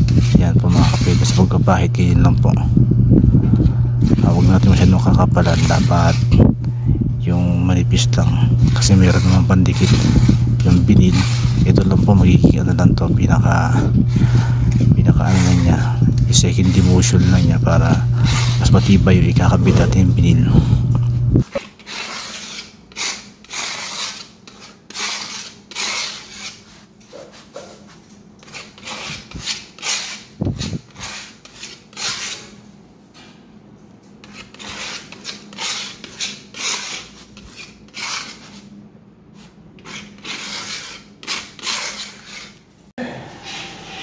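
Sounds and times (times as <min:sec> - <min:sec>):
spreader scraping adhesive on concrete: 0:00.0 - 0:02.3, 0:04.0 - 0:06.4, 0:07.3 - 0:20.4, 0:21.4 - 0:32.6, 0:34.2 - 0:38.7, 0:39.3 - 0:42.6.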